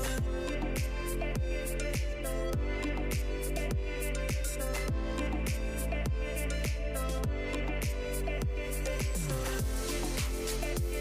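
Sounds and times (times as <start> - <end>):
deep kick drum: 0.1 - 11.0.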